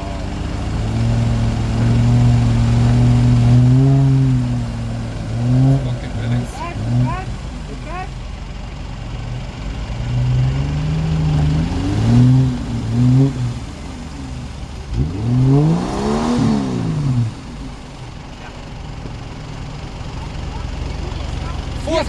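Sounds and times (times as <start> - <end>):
engine revving: 0.0 - 22.0.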